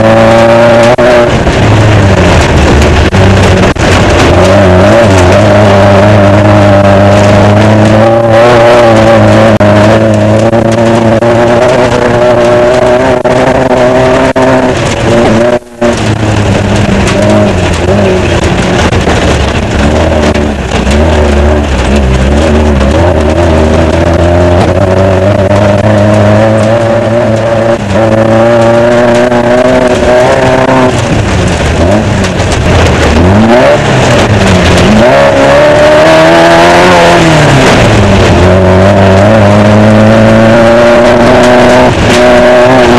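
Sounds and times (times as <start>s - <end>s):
race car engine running hard: 0.0s - 42.9s.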